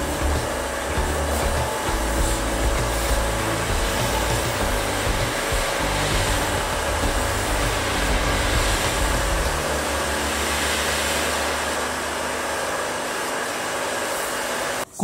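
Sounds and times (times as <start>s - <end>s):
pressure washer motor droning: 0.0s - 14.9s
water jet hissing: 0.0s - 15.0s.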